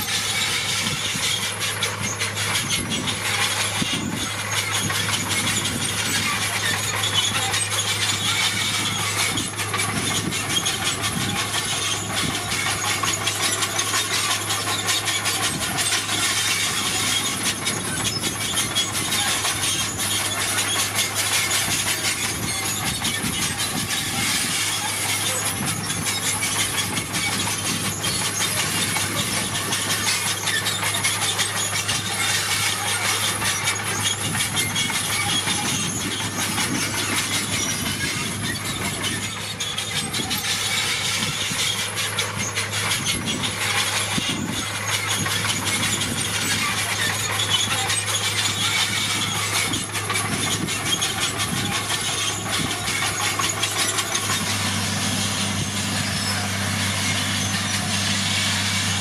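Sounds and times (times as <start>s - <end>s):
diesel engine humming: 0.0s - 59.0s
steel tracks clanking and grinding: 0.0s - 59.0s.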